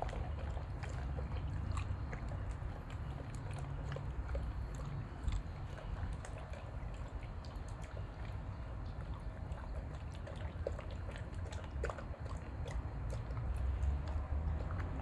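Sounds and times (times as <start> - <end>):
dog chewing food: 0.0 - 15.0
low steady rumble: 0.0 - 15.0.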